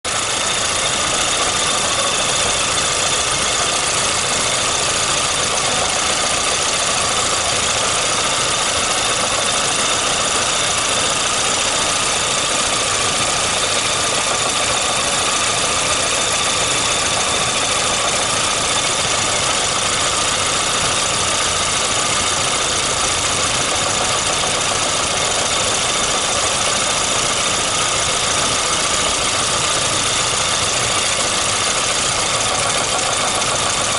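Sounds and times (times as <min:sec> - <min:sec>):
car engine idling: 0:00.1 - 0:33.9
engine tapping knock: 0:00.1 - 0:33.9.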